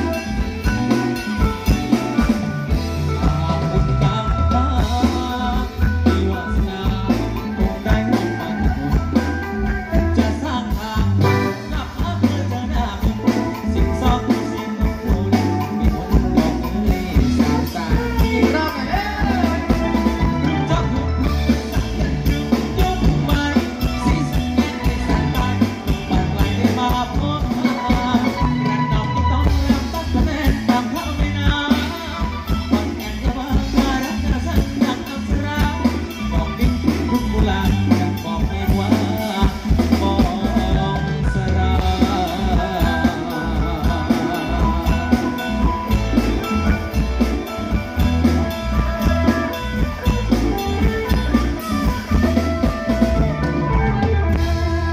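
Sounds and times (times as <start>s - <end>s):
drum kit beat: 0.0s - 54.9s
electric guitar: 0.0s - 54.9s
live band playing amplified music: 0.0s - 54.9s
person singing: 0.0s - 54.9s.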